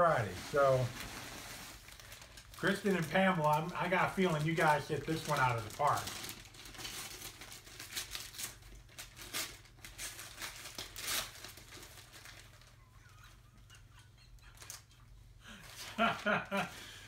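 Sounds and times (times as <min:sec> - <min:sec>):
wrapping paper tearing and crinkling: 0:00.0 - 0:13.4, 0:14.4 - 0:16.7.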